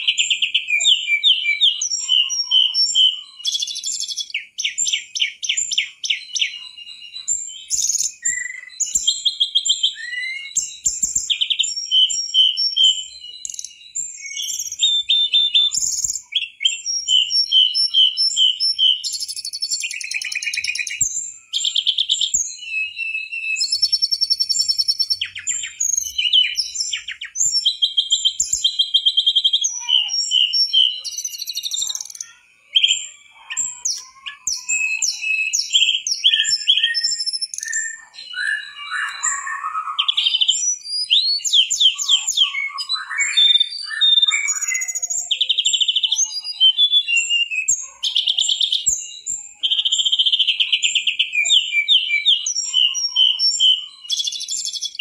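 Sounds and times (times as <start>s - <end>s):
bird singing whistles and trills: 0.0s - 55.0s.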